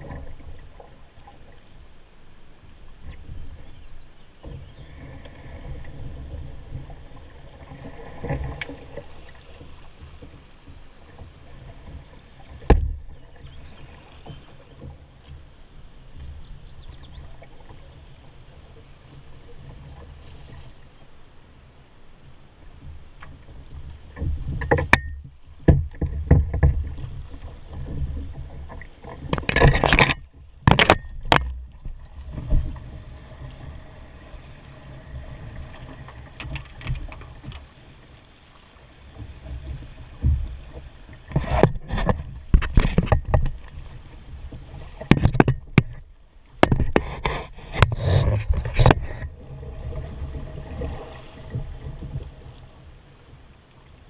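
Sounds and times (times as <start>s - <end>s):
water rushing around canoe hull: 0.0s - 54.0s.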